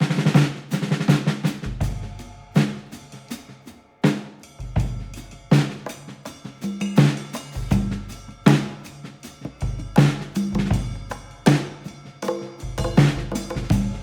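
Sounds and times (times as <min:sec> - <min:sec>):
hard percussion hits: 0:00.0 - 0:14.0.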